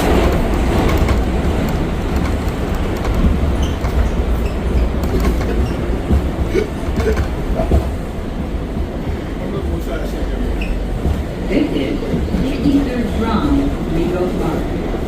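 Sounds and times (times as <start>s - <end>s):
subway wheels rumbling on rails: 0.0s - 15.0s.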